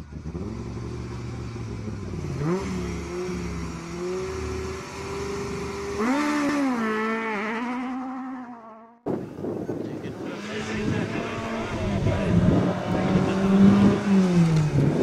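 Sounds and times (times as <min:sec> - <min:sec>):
rally car engine revving: 0:00.0 - 0:08.6, 0:10.2 - 0:15.0.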